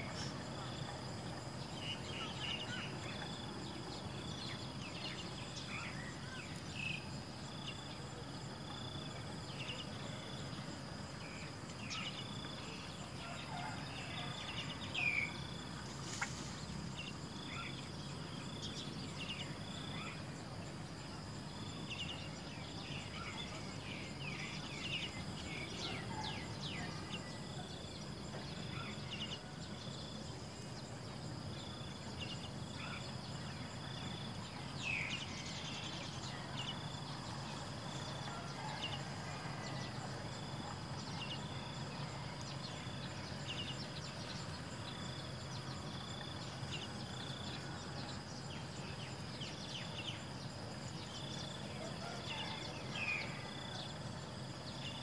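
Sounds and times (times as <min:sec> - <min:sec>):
high steady insect drone: 0:00.0 - 0:55.0
insect trill: 0:00.0 - 0:55.0.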